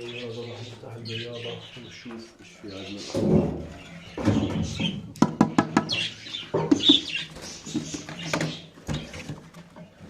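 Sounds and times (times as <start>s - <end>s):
budgerigars chirping and squawking: 0.0s - 9.2s.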